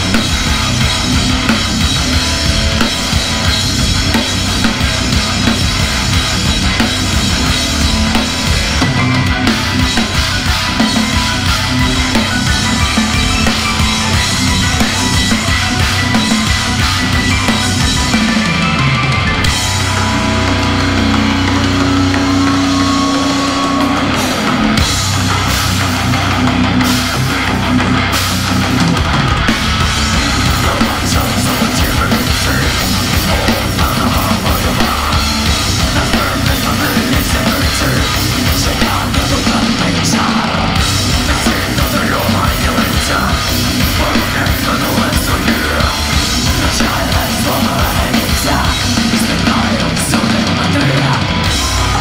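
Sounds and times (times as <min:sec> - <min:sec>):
fast drumming: 0:00.0 - 0:52.0
heavy metal band playing live: 0:00.0 - 0:52.0.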